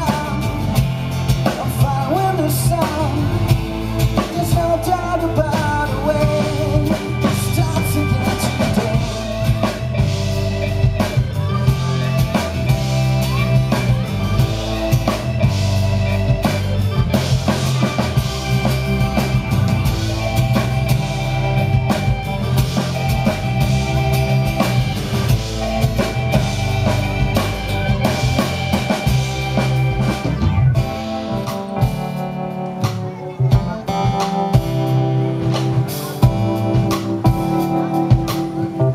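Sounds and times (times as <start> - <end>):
drum kit beat: 0.0 - 38.9
keyboard: 0.0 - 38.9
live band playing: 0.0 - 38.9.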